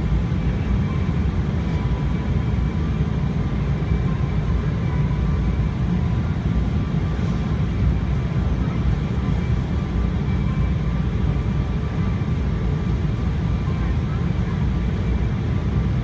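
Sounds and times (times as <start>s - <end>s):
airplane engines rumbling in cabin: 0.0s - 16.0s.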